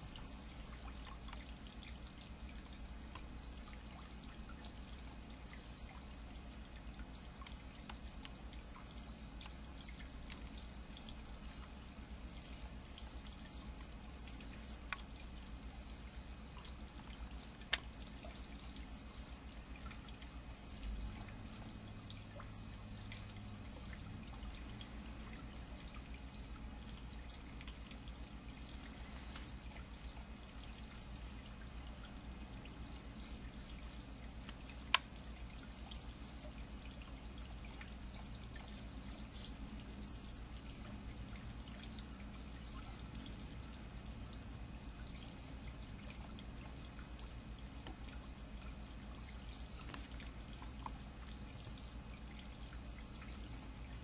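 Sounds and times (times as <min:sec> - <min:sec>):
small songbirds calling: 0:00.0 - 0:06.4, 0:07.0 - 0:54.0
low steady hum: 0:00.0 - 0:54.0.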